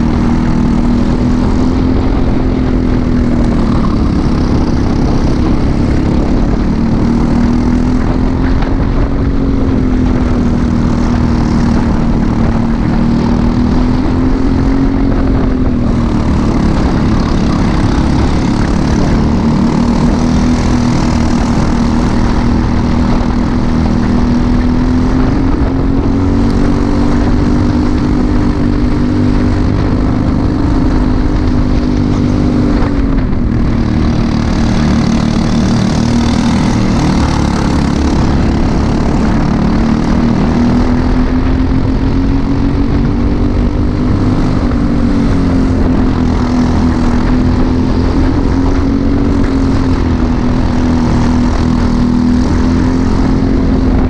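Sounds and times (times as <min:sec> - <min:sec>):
kart engine at race speed: 0:00.0 - 0:54.0
loud rushing noise: 0:00.0 - 0:54.0.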